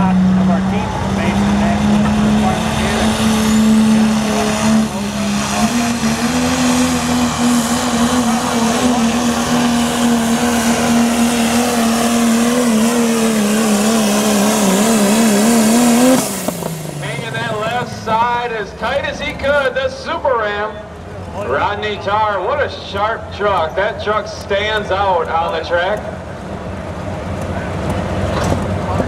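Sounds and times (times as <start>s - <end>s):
diesel truck engine under load: 0.0s - 29.0s.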